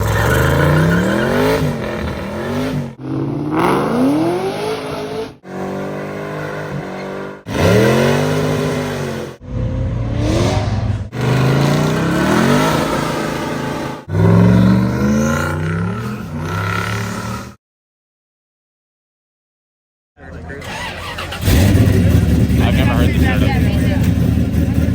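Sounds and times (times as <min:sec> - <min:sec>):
muscle car engines revving: 0:00.0 - 0:17.6, 0:20.2 - 0:24.9.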